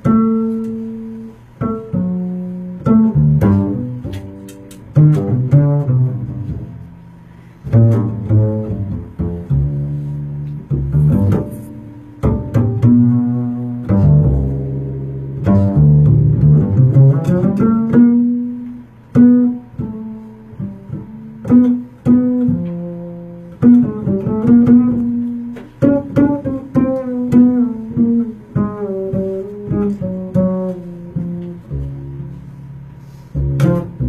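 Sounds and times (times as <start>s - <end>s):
double bass plucked notes: 0.0s - 34.0s.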